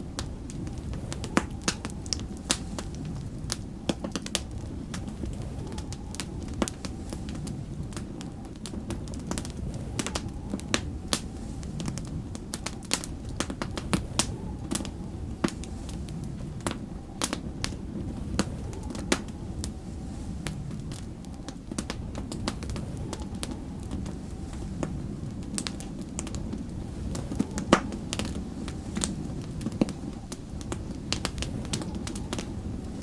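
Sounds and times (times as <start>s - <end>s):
snowstorm wind rumble: 0.0s - 33.0s
wood fire crackling: 0.0s - 33.0s.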